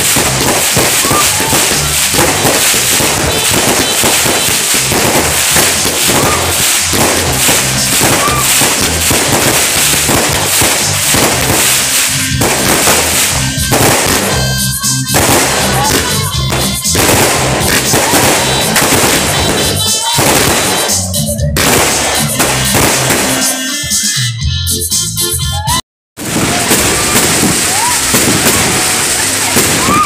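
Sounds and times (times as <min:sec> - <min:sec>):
fireworks crackling and popping: 0:00.0 - 0:24.2, 0:26.2 - 0:30.0
music playing: 0:00.0 - 0:30.0.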